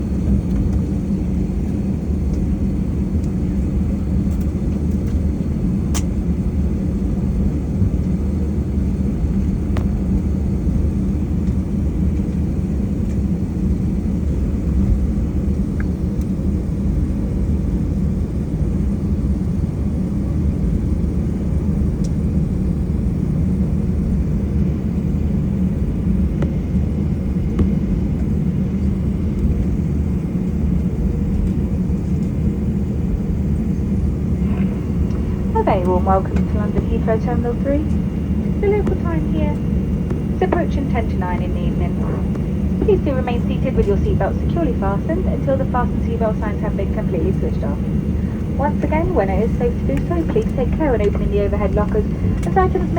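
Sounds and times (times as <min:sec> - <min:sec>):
airplane cabin low rumble: 0:00.0 - 0:52.9.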